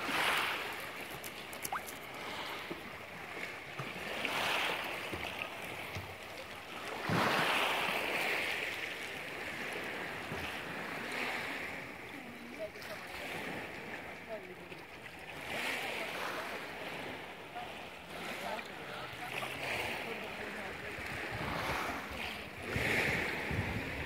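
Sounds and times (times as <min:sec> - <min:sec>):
waves washing over pebbles: 0:00.0 - 0:24.0.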